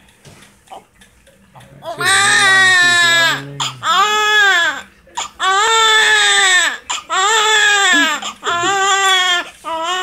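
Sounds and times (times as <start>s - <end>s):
newborn baby crying: 1.8s - 10.0s.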